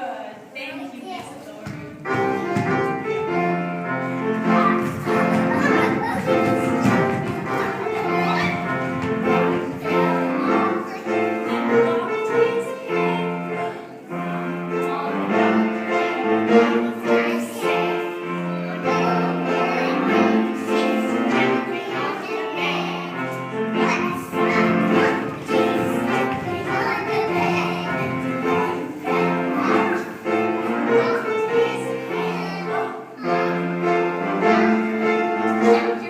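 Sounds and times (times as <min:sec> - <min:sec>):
classical music with held notes: 0:01.4 - 0:36.0.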